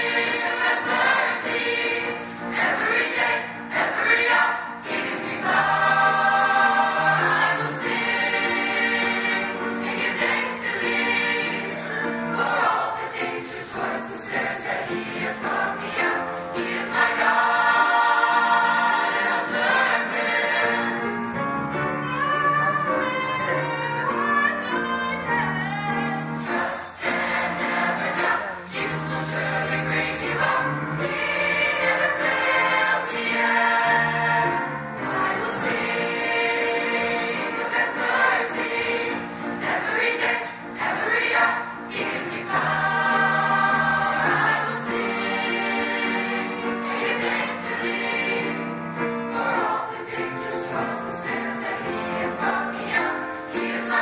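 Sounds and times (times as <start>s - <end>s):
choir singing gospel song: 0.0s - 54.0s
piano accompaniment: 0.0s - 54.0s.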